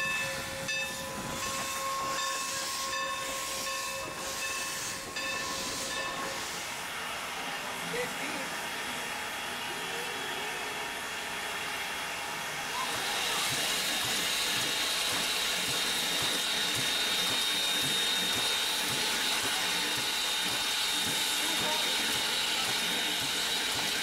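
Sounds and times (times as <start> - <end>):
steam hissing from locomotive: 0.0 - 24.0.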